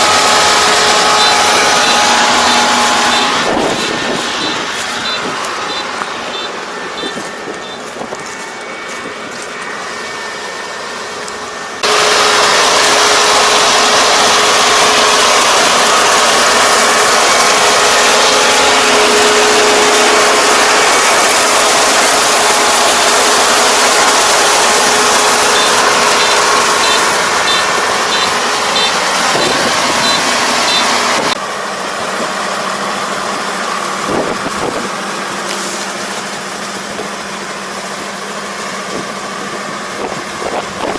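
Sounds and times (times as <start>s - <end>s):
combine harvester droning: 0.0s - 40.9s.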